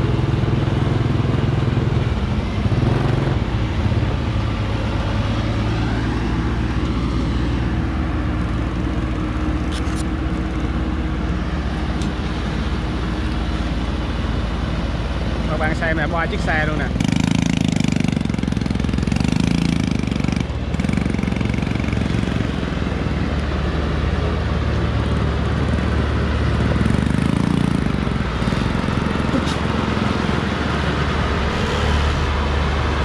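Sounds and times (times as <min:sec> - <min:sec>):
truck diesel engine working hard: 0:00.0 - 0:33.0.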